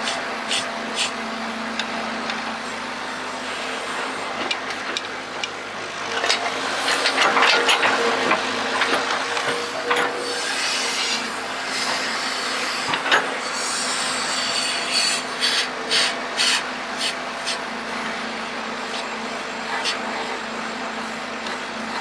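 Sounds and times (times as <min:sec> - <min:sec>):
faint motor hum: 0:00.0 - 0:22.0.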